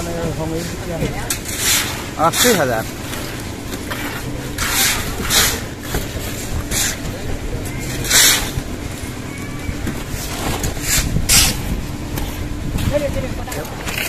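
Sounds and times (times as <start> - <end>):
concrete mixer engine running: 0.0 - 14.0
wet concrete scraping: 0.0 - 14.0.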